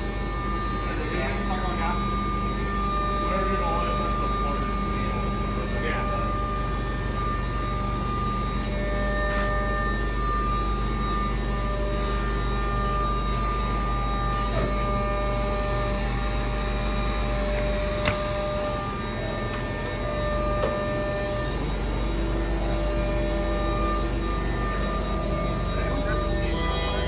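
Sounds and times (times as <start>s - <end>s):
forklift engine running: 0.0s - 27.0s.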